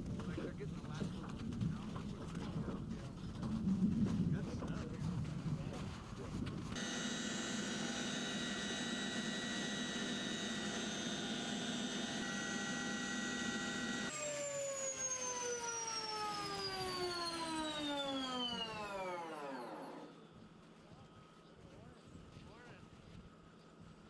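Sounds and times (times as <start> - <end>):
helicopter turbine engines whining: 0.0 - 20.7.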